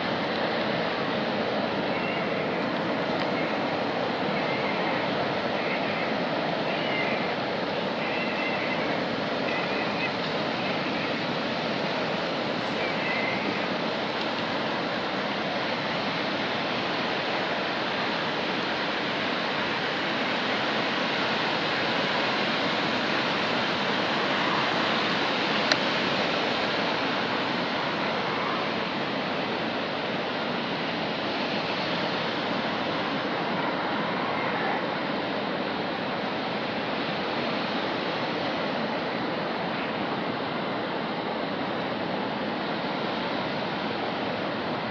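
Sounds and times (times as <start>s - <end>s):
water rushing through spillway: 0.0s - 44.9s.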